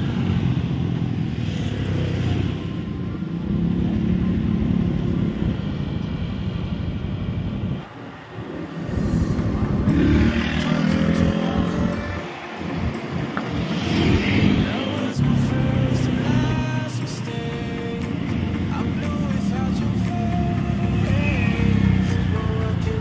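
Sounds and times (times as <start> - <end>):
scooters and cars passing: 0.0 - 23.0.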